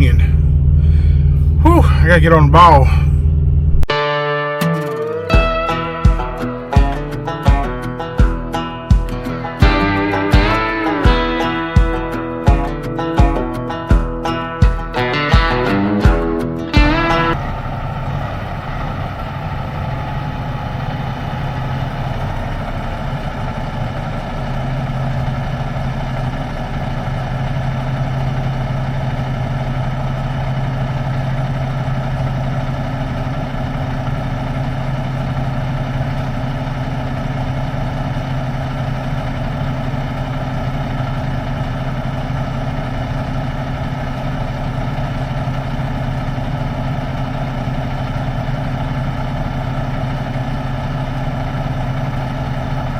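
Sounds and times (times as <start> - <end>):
truck diesel engine running: 0.0 - 4.0, 4.7 - 52.9.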